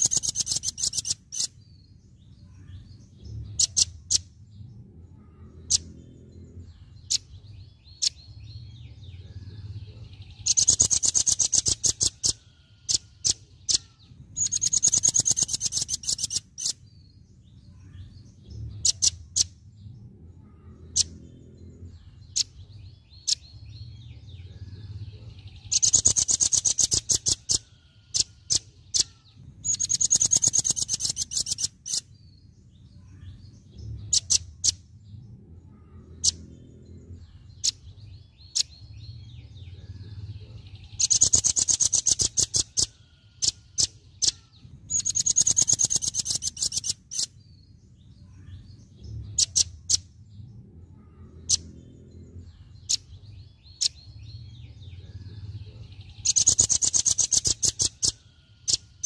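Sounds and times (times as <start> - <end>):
high bird chirps: 0.0 - 4.4, 5.2 - 19.7, 20.4 - 50.2, 50.9 - 59.0
rapid bird trills: 0.0 - 59.0.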